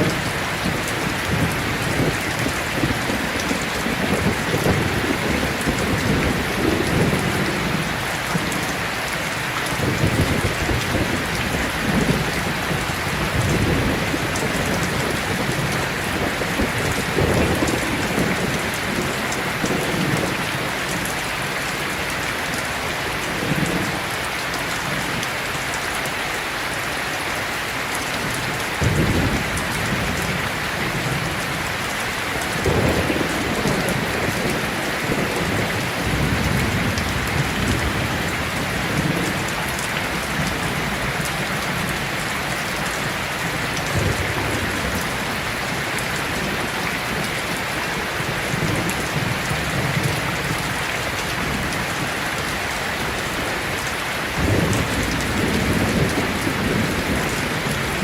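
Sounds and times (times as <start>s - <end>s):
thunder rumbling: 0.0s - 8.8s, 9.6s - 21.3s, 28.2s - 52.4s, 54.3s - 58.0s
heavy rain: 0.0s - 58.0s.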